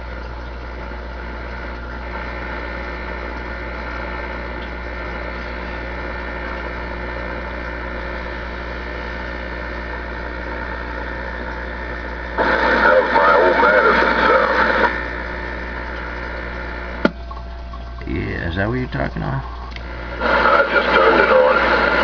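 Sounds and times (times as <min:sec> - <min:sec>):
radio speaker hum with hiss: 0:00.0 - 0:22.0.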